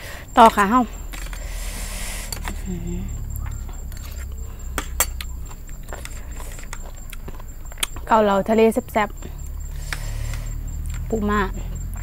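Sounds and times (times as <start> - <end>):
closed-mouth hum: 0.0 - 12.0.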